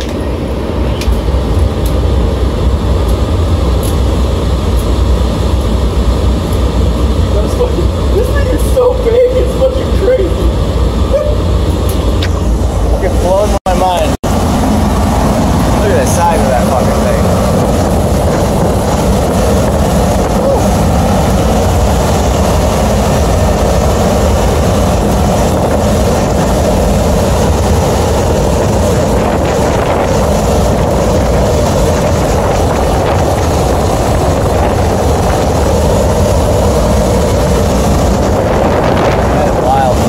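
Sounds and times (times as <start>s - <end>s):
blower and motor hum: 0.0s - 40.0s.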